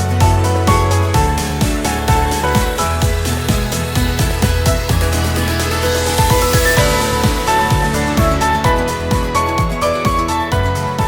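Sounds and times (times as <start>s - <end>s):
electronic music with bass beat: 0.0s - 11.0s.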